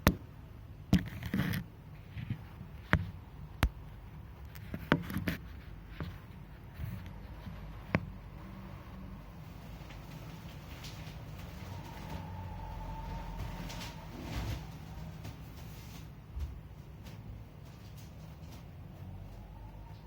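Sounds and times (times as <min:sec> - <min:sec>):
air conditioner fan humming: 0:00.0 - 0:20.0.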